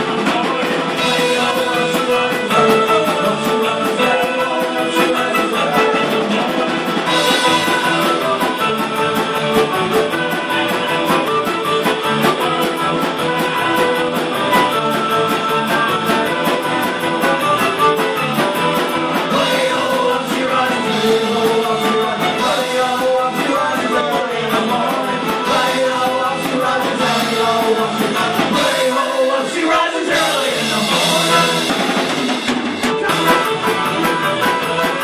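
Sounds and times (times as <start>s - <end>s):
fiddle: 0.0s - 29.7s, 32.8s - 35.0s
live rock band playing: 0.0s - 35.0s.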